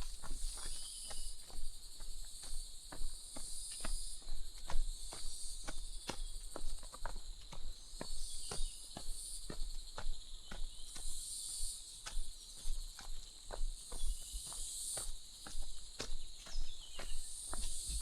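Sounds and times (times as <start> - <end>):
footsteps walking: 0.0 - 18.0
insect chorus: 0.0 - 18.0.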